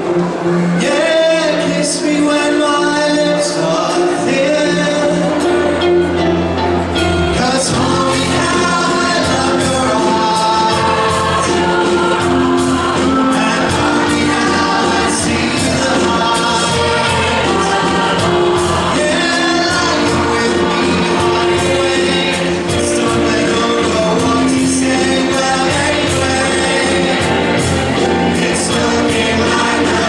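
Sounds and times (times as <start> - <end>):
choir singing in harmony: 0.0 - 30.0
man singing into microphone: 0.6 - 6.3, 7.0 - 30.0
steady beat: 5.3 - 30.0.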